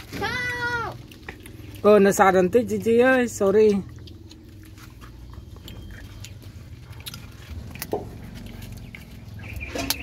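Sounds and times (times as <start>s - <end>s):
dog chewing meat and bone: 0.0s - 10.0s
low hum: 0.0s - 10.0s.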